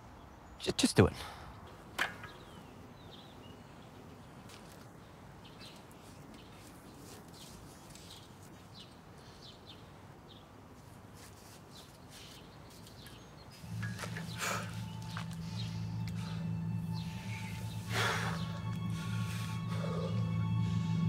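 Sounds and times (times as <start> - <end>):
faint outdoor background: 0.0 - 21.0.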